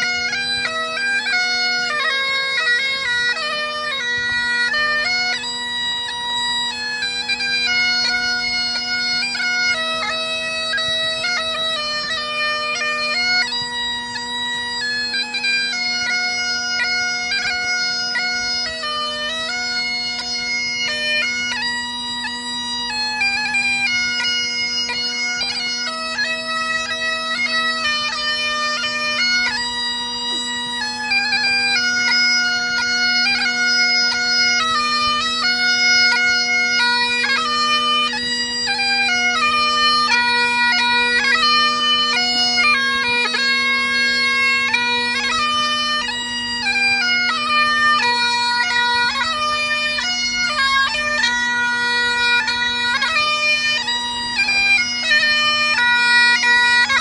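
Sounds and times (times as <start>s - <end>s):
bagpipe chanter melody: 0.0s - 57.0s
bagpipe drone: 0.0s - 57.0s.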